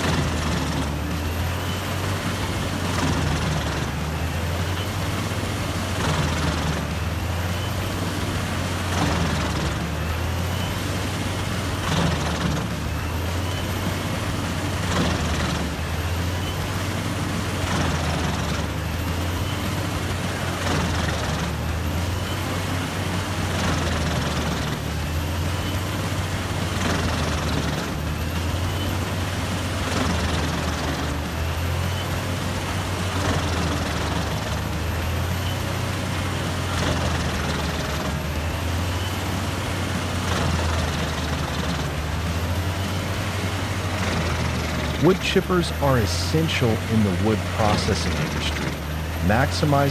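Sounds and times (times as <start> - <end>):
wood chipper running: 0.0 - 49.9.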